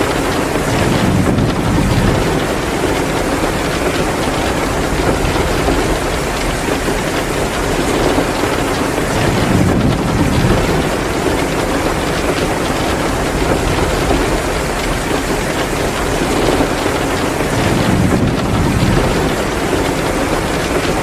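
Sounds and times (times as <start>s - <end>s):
heavy rain downpour: 0.0s - 21.0s
wood fire crackling: 0.0s - 21.0s.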